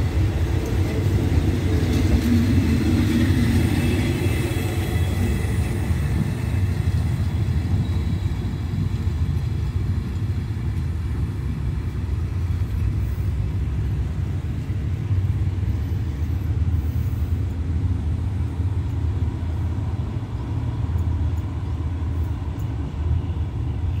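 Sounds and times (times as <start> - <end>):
train rumbling away: 0.0 - 24.0.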